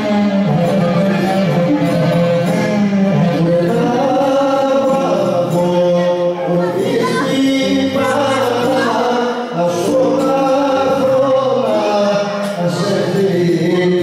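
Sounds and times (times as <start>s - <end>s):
lute: 0.0s - 14.0s
person singing: 0.0s - 14.0s.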